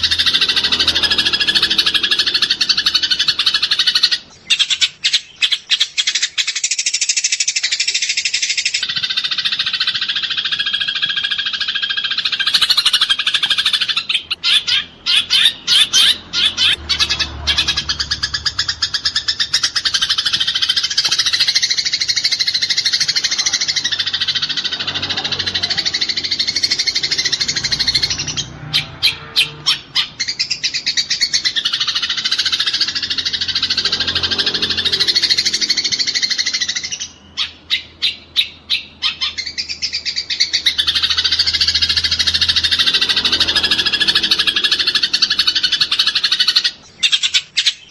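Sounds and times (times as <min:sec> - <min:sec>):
sparrows chirping: 0:00.0 - 0:47.9.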